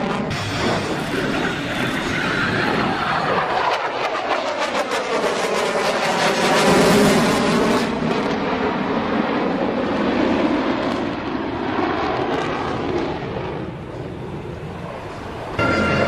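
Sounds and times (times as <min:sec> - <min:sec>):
jet fighter roaring flyby: 0:00.0 - 0:16.0.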